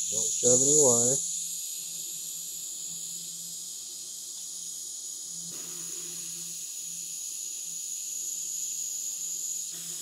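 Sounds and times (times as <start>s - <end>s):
welding arc hissing: 0.0s - 10.0s.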